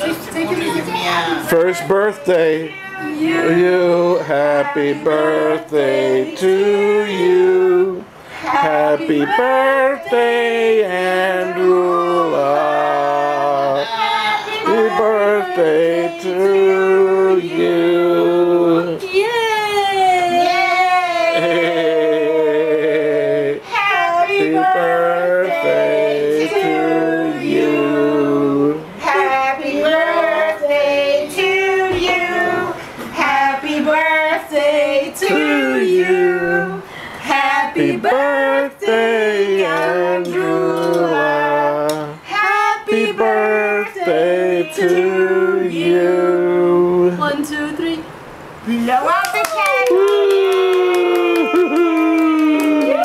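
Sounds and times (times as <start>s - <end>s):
women singing: 1.6s - 47.8s.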